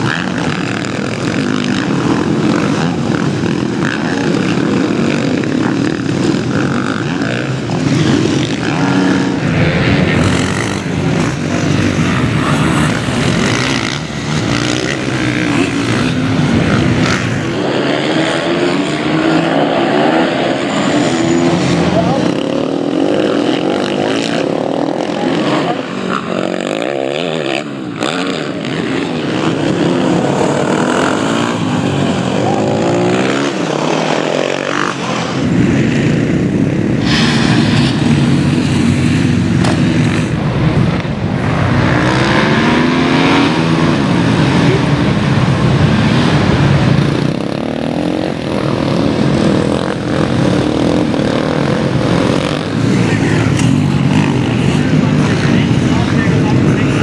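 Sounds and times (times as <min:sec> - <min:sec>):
race motorcycles revving: 0:00.0 - 0:57.0.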